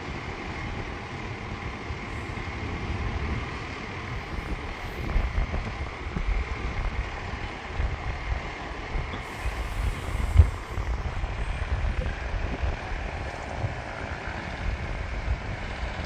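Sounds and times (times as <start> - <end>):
airport background rumble: 0.0 - 16.0
wind buffeting microphone: 0.0 - 16.0.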